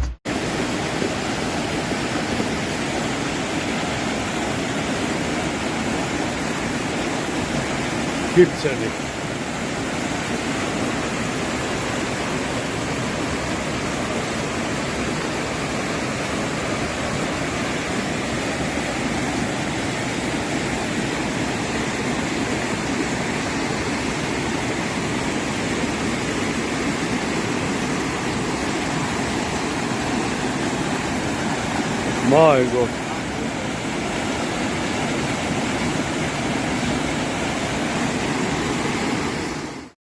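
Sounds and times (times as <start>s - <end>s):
floodwater rushing: 0.3s - 40.0s.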